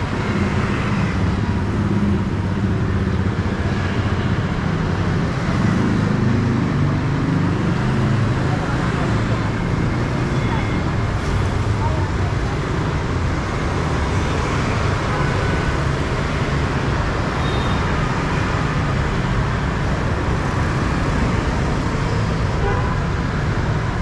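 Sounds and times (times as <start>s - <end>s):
cars driving on road: 0.0s - 24.0s.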